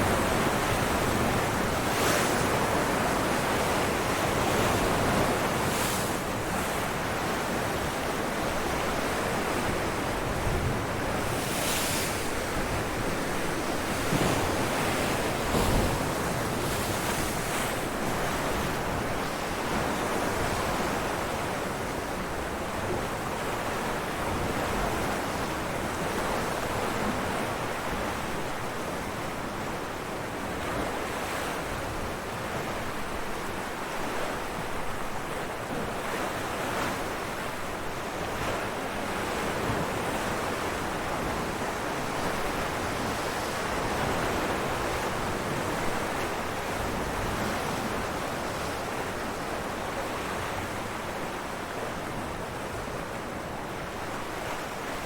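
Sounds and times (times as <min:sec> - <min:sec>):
ocean waves breaking on rocks: 0:00.0 - 0:28.3, 0:35.8 - 0:55.0.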